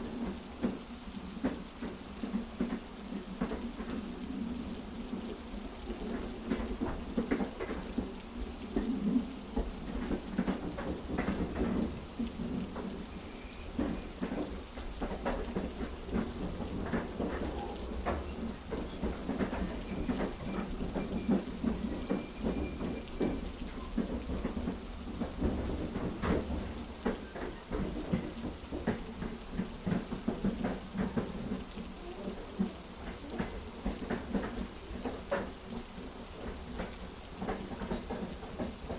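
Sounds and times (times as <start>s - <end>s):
heavy rain: 0.0s - 38.9s
train wheels clacking on tracks: 0.0s - 38.9s.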